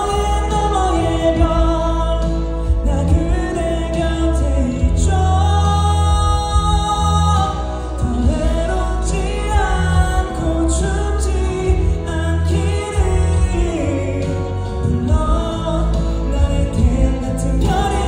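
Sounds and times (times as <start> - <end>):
backing track with bass line: 0.0 - 18.0
man singing a ballad: 0.0 - 18.0.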